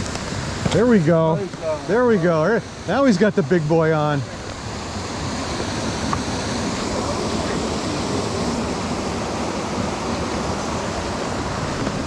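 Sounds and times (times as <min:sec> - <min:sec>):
stream water running over rocks: 0:00.0 - 0:12.0.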